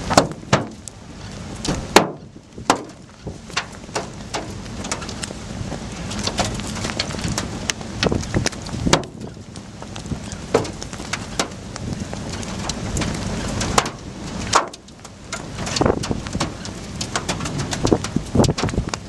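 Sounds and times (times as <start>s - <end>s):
raindrops tapping: 0.0s - 19.0s
wind rumbling on microphone: 0.0s - 19.0s.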